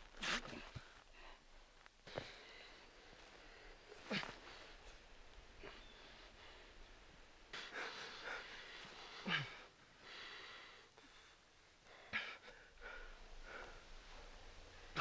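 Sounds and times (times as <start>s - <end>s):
men breathing heavily: 0.1s - 15.0s.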